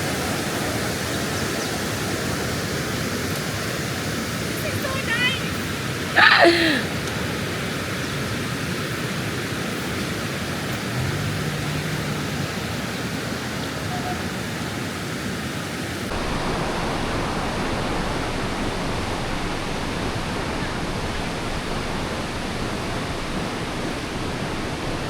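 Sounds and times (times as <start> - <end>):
fast-flowing river water: 0.0 - 25.0.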